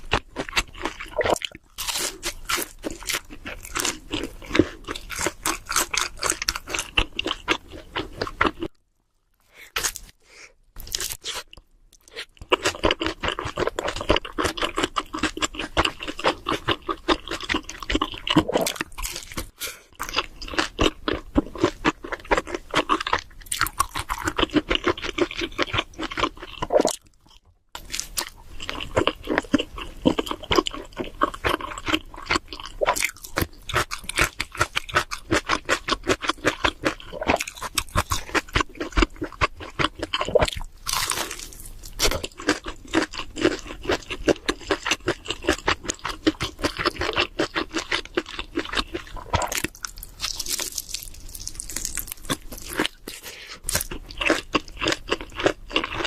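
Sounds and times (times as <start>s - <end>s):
chewing crunchy pizza: 0.0s - 8.8s, 10.8s - 56.0s.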